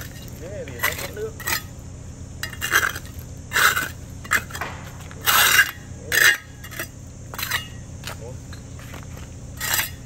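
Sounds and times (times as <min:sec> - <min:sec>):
trowel scraping mortar and gravel: 0:00.0 - 0:01.8, 0:02.4 - 0:07.8, 0:08.8 - 0:10.0.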